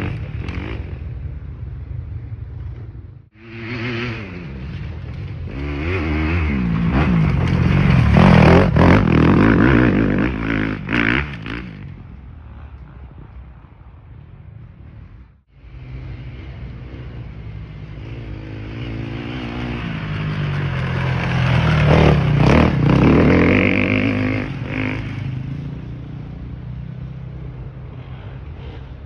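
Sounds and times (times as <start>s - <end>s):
motorcycle passing by: 0.0s - 14.2s, 15.5s - 29.0s.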